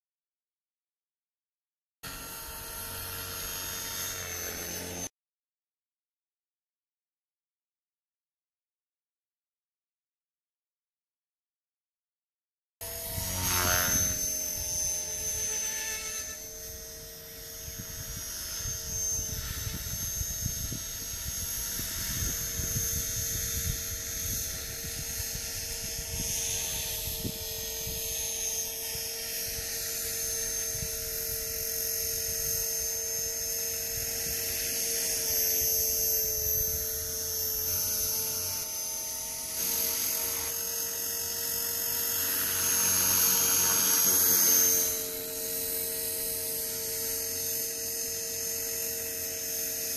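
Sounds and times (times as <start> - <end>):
rc helicopter rotor whine: 2.0 - 5.1, 12.8 - 49.9.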